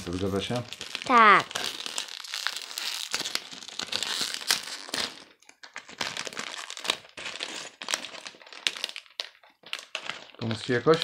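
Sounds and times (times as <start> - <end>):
foil sachet crinkling: 0.0 - 11.0.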